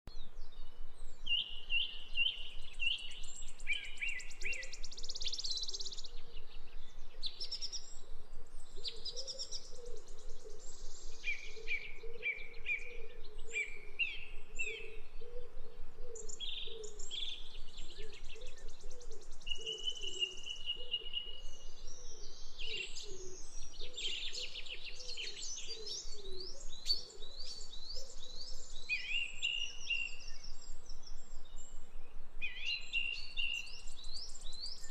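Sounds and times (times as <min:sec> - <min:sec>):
birds chirping and singing: 0:00.1 - 0:34.9.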